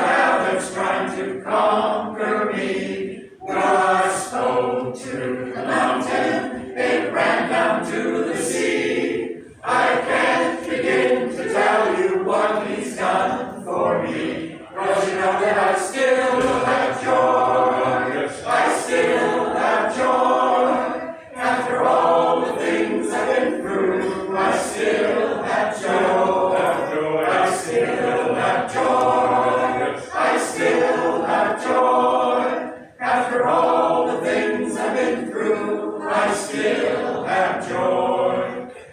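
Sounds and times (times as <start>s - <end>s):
vocal group singing in harmony: 0.0s - 38.9s.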